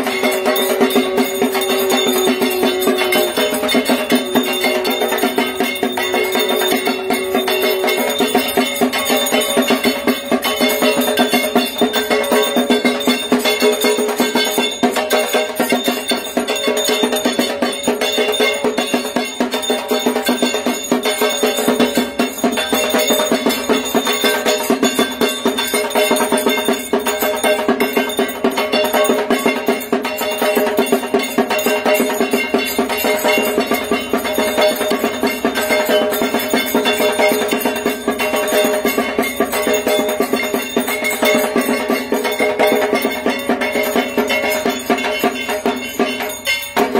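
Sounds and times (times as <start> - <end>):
drums beaten fast: 0.0 - 46.9
ringing metal bells: 0.0 - 46.9.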